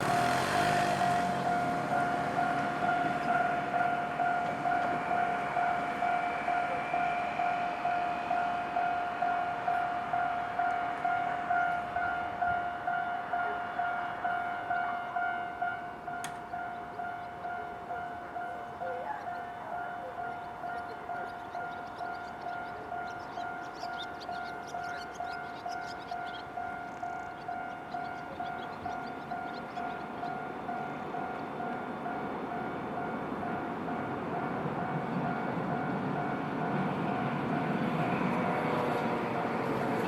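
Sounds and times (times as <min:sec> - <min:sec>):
level crossing warning bell: 0:00.0 - 0:39.6
train rumble: 0:00.0 - 0:40.0.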